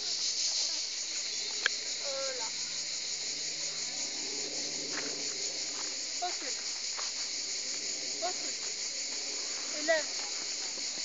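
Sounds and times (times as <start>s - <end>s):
insects shrilling: 0.0s - 11.0s.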